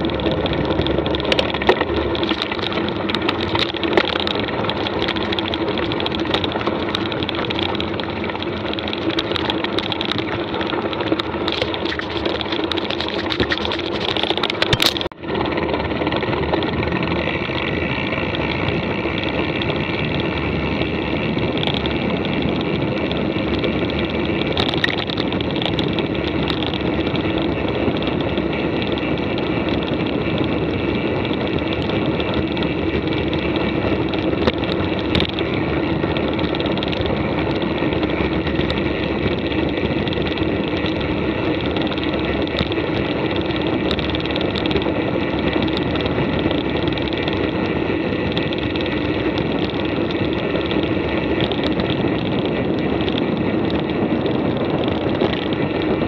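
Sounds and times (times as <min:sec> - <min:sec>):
bike tyres rolling on trail: 0:00.0 - 0:56.0
small rattling clicks: 0:00.0 - 0:56.0.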